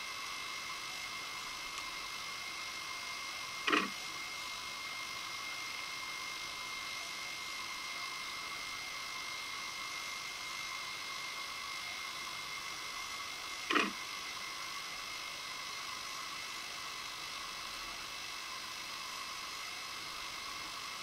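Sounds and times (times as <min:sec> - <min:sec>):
electronic hiss with high whine: 0:00.0 - 0:21.0.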